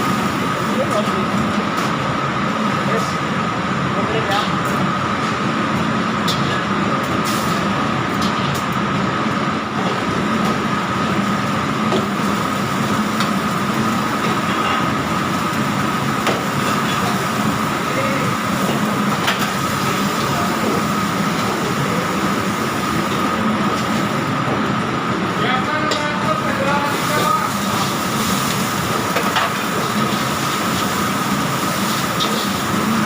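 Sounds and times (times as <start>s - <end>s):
extractor fan: 0.0s - 33.0s
gas burners roaring: 0.0s - 33.0s.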